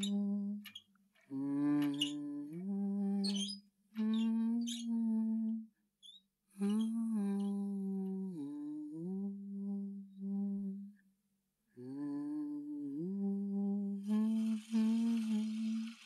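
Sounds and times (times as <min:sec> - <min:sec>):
person humming a slow tune: 0:00.0 - 0:05.7, 0:06.6 - 0:11.0, 0:11.8 - 0:16.0.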